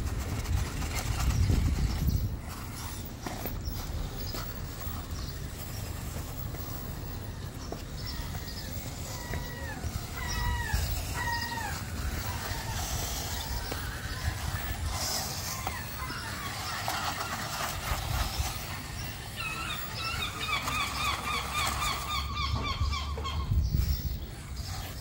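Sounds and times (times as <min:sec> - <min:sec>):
bird calling: 0:00.9 - 0:25.0.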